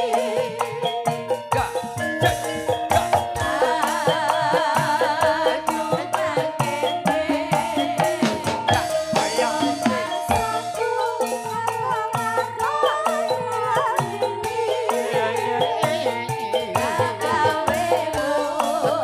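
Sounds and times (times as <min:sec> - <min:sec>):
drum strokes: 0:00.0 - 0:19.0
melody with wavering vibrato: 0:00.0 - 0:19.0.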